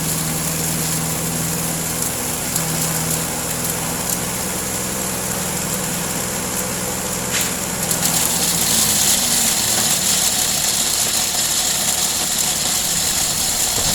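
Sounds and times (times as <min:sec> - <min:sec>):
brush-cutter engine running: 0:00.0 - 0:13.9.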